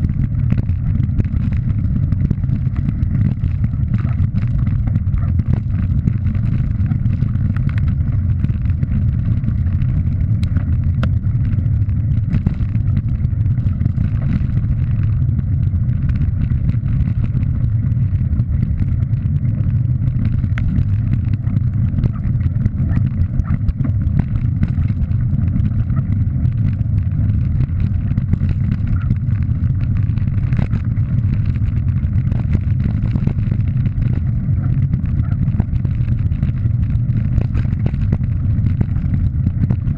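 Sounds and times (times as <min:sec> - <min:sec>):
small clicks and rattles: 0:00.0 - 0:39.9.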